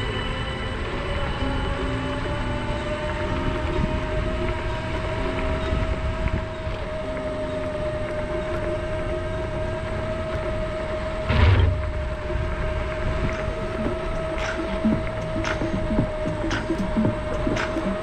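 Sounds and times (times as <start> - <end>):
electric scooter motor whining: 0.0 - 18.0
road and wind noise: 0.0 - 18.0.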